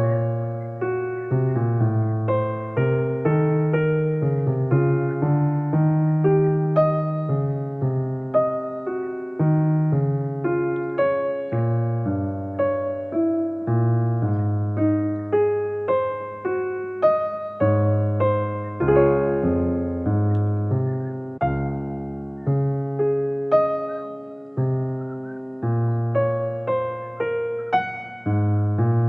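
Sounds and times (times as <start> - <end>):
electric piano music: 0.0 - 29.0.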